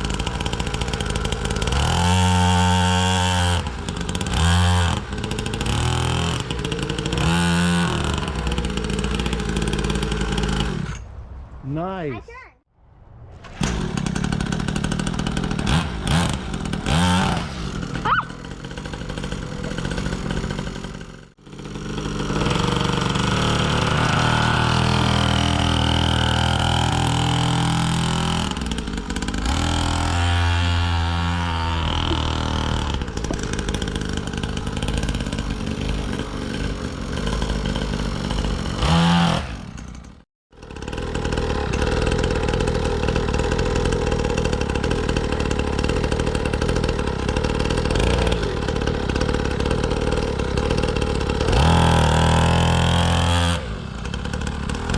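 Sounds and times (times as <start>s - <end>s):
dirt bike engine revving: 0.0s - 11.0s, 13.4s - 54.9s.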